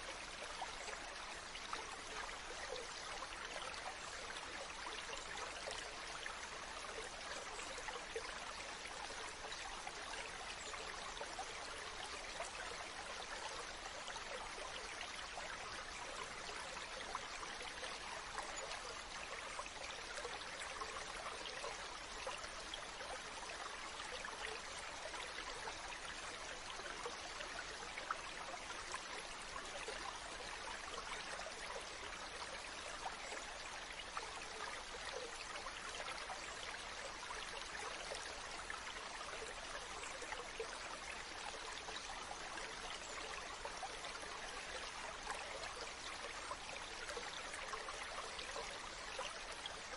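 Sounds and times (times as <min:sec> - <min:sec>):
stream babbling over rocks: 0:00.0 - 0:49.9.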